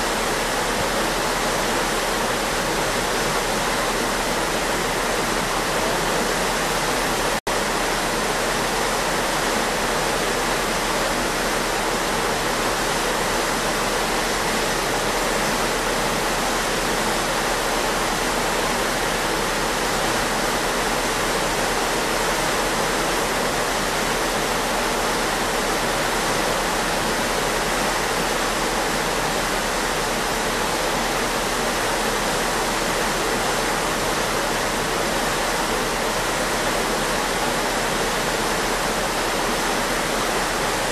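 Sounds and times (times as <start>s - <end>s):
ship wake water churning: 0.0s - 40.9s.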